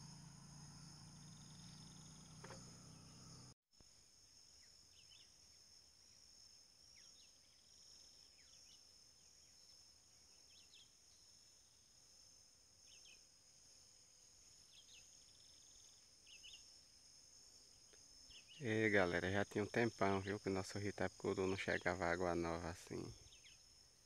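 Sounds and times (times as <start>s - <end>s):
faint bird chirps: 0.0s - 3.6s, 4.5s - 12.0s, 12.8s - 13.3s, 14.5s - 16.9s, 17.6s - 23.8s
insect drone: 0.0s - 24.0s.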